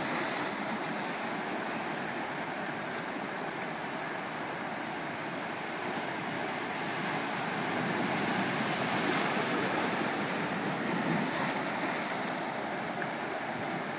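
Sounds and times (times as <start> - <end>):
surf washing over rocks: 0.0 - 13.9.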